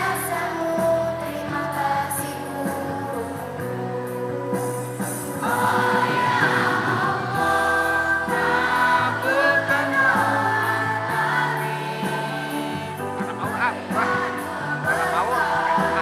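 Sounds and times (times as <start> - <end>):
children's choir singing: 0.0 - 3.6, 5.2 - 16.0
musical backing: 0.0 - 16.0.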